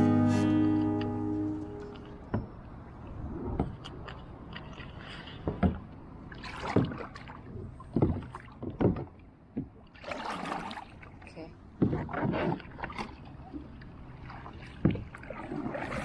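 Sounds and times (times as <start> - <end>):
knocks and splashes: 0.0 - 16.0
paddle swishing through water: 0.0 - 16.0.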